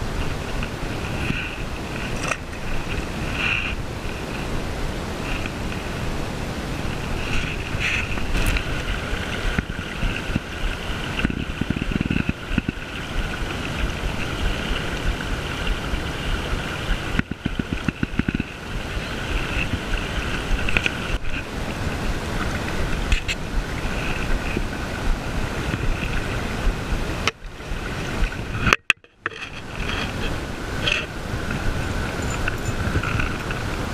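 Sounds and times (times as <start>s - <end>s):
river flowing over gravel: 0.0s - 33.9s
wind on microphone: 0.0s - 33.9s.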